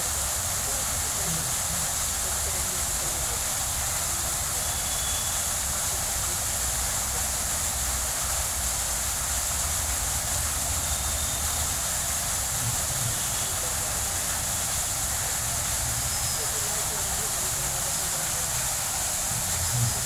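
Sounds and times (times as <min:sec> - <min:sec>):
fountain water splashing: 0:00.0 - 0:20.0.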